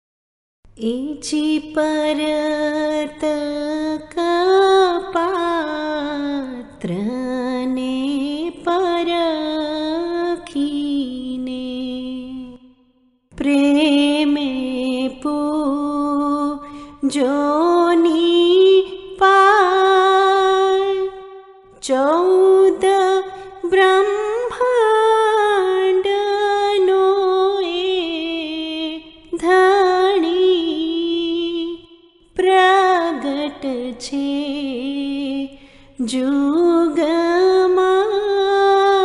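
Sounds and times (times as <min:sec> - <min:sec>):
woman chanting: 0:00.8 - 0:12.8, 0:13.4 - 0:39.0.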